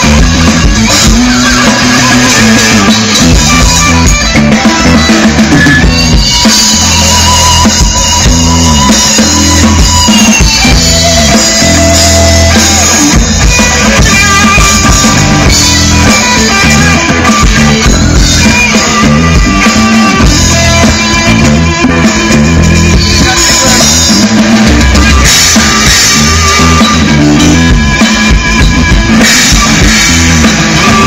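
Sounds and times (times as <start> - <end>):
drum kit: 0.0 - 31.0
electric guitar: 0.0 - 31.0
sustained bass notes: 0.0 - 31.0.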